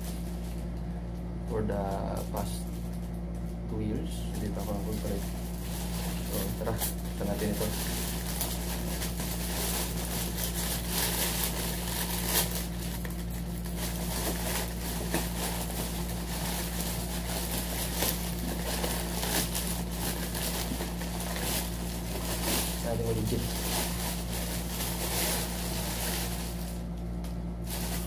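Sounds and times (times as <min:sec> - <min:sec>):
steady low hum: 0:00.0 - 0:28.0
plastic packaging crinkling: 0:01.6 - 0:28.0
plastic bag tearing: 0:04.3 - 0:26.9, 0:27.6 - 0:28.0.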